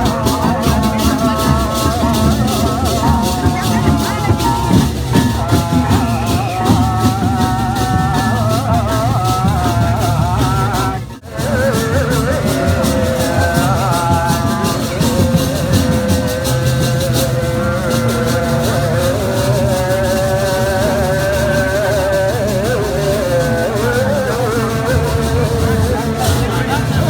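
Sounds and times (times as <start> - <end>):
music with metallic beat: 0.0 - 27.0.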